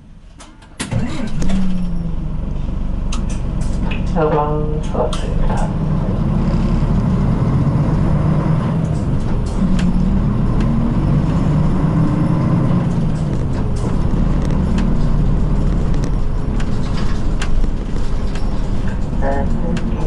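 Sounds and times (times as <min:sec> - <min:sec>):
bus engine and road rumble: 0:00.0 - 0:20.0
interior rattles and clicks: 0:00.3 - 0:20.0.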